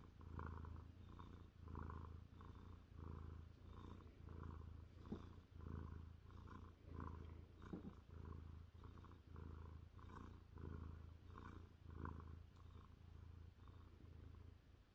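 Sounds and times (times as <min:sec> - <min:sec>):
cat purring: 0:00.0 - 0:14.9.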